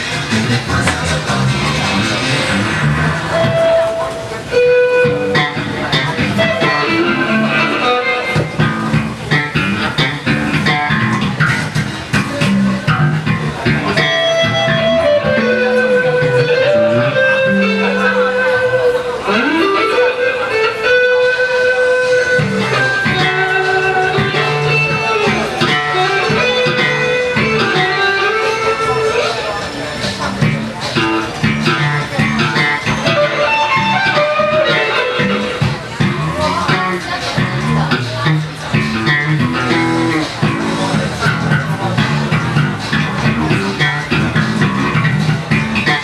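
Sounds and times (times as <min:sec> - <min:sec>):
band playing a song: 0:00.0 - 0:46.0
bass guitar: 0:00.0 - 0:46.0
electric guitar: 0:00.0 - 0:46.0.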